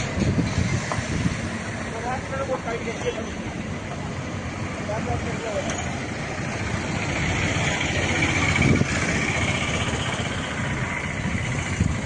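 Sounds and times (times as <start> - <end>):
motor vehicle engines running: 0.0 - 12.0.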